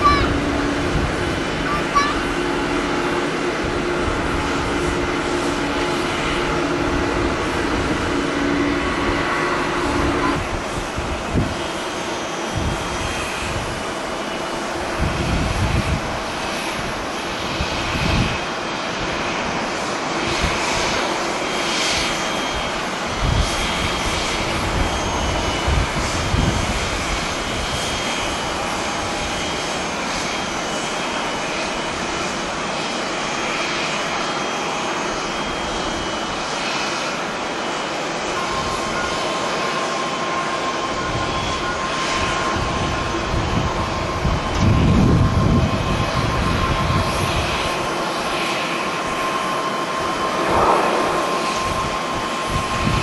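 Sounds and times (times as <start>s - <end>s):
wind buffeting microphone: 0.0s - 30.6s, 40.9s - 53.0s
jet engines running with whine: 0.0s - 53.0s.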